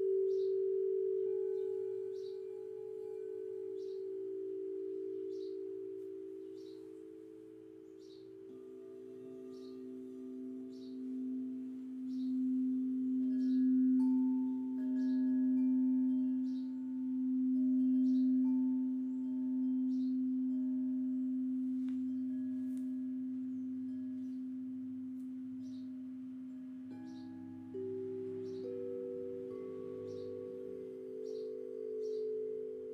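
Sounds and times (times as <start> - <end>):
bird chirping: 0.0 - 32.9
higher singing bowl tone: 0.0 - 32.9
singing bowl low tone: 0.0 - 32.9.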